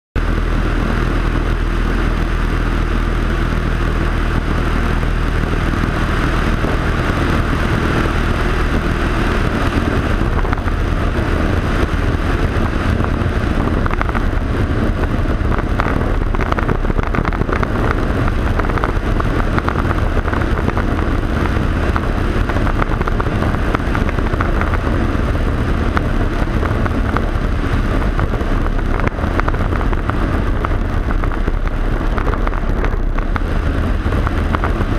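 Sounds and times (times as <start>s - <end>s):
wind rush: 0.2s - 34.9s.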